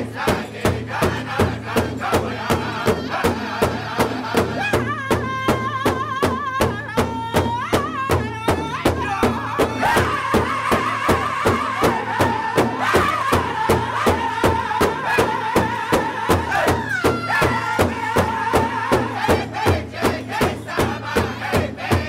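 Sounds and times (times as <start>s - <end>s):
group singing in high unison: 0.0s - 22.0s
large drum fast beat: 0.0s - 22.0s.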